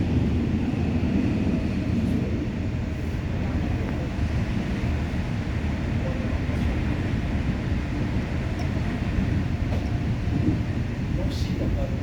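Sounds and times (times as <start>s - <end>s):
subway car wheels on rail: 0.0s - 12.0s.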